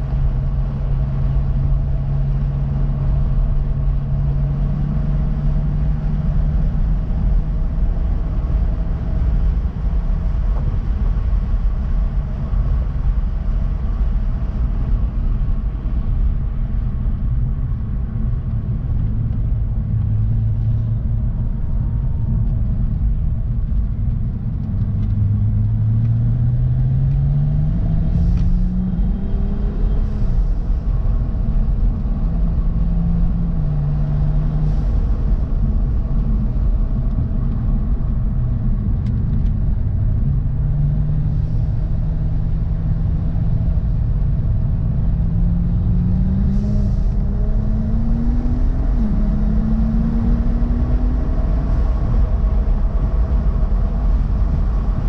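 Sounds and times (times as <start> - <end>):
car engine drone from cabin: 0.0 - 55.0
road and wind rumble: 0.0 - 55.0.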